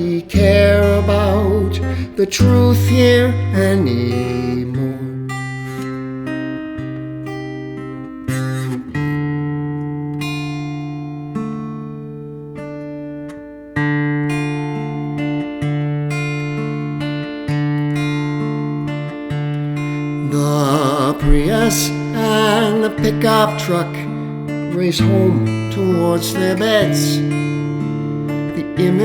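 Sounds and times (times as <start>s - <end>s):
acoustic guitar chords: 0.0s - 29.0s.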